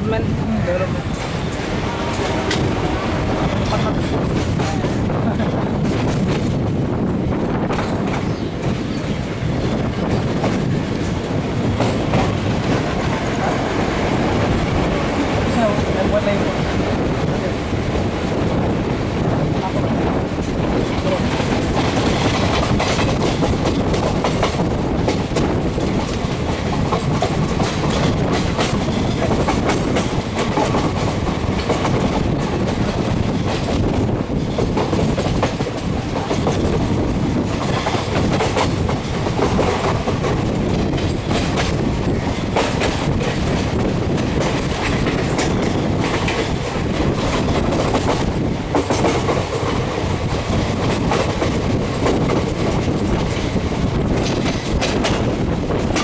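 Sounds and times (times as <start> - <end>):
train wheels clattering on rails: 0.9 - 56.0.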